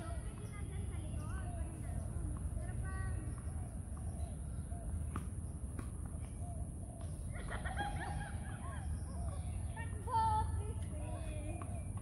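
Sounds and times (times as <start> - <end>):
birds squawking and chattering: 0.0 - 12.0.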